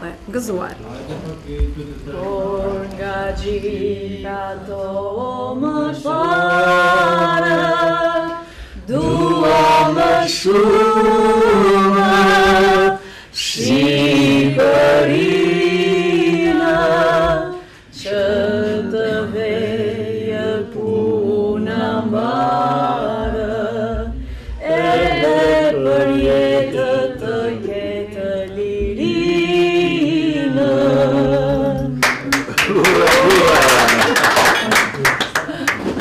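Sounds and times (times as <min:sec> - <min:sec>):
group of voices singing: 0:01.6 - 0:34.1.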